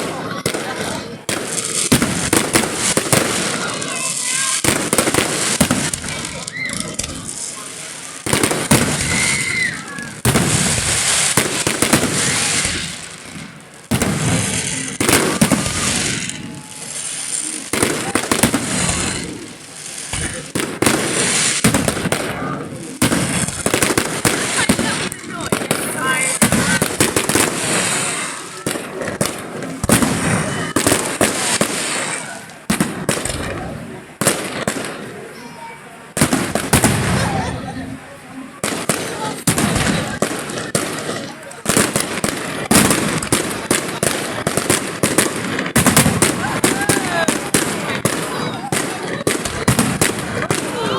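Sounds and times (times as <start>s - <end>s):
firework bangs: 0.0s - 50.9s
firework crackling fizz: 0.0s - 50.9s.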